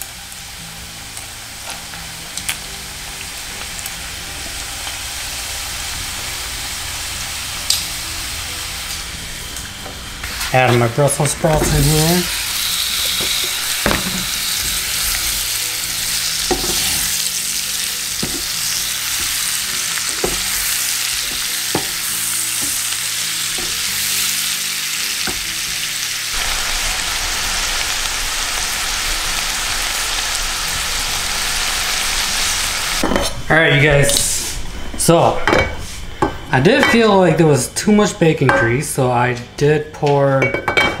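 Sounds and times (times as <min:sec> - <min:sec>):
food sizzling in a frying pan: 0:00.0 - 0:33.1.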